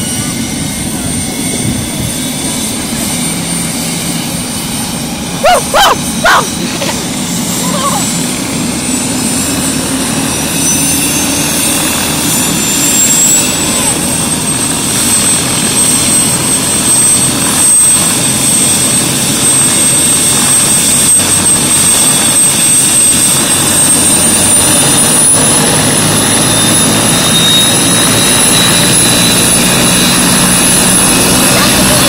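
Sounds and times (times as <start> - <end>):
helicopter turbine and rotor: 0.0 - 32.0.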